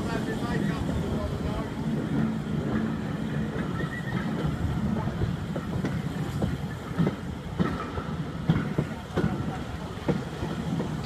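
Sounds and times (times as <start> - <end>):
train wheels rumbling on track: 0.0 - 11.0
wheels clicking over rail joints: 0.0 - 11.0.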